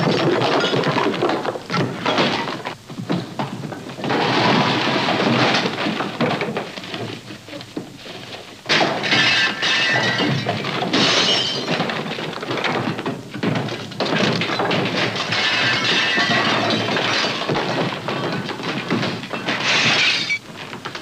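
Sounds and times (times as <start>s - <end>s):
furniture crashing and shattering: 0.0s - 21.0s.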